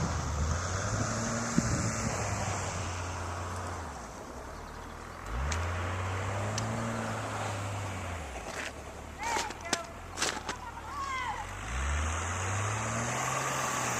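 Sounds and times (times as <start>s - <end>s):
vehicle engine revving: 0.0s - 9.2s, 11.0s - 13.9s.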